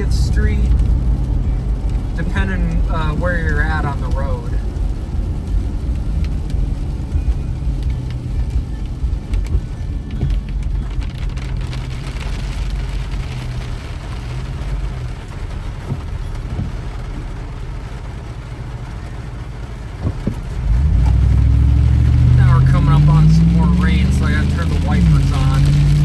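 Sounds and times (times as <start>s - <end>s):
car engine and road rumble: 0.0s - 26.0s
rain ticking on car: 0.0s - 26.0s
tyres hissing on wet road: 0.0s - 26.0s.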